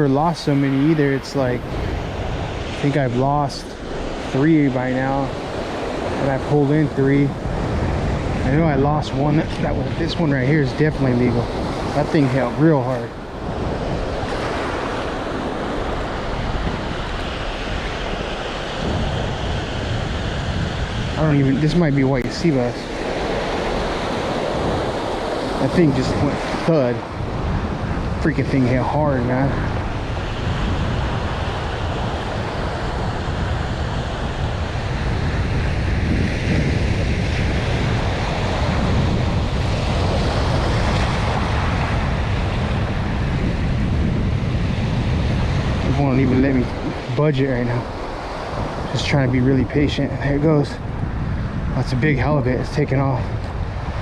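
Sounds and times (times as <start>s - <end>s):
ocean surf washing onto beach: 0.0s - 54.0s
wind buffeting microphone: 0.0s - 54.0s.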